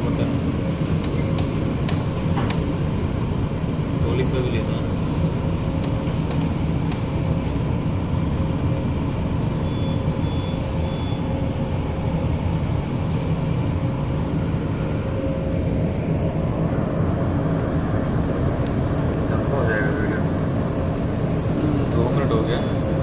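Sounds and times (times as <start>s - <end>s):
ship engine drone: 0.0s - 23.0s.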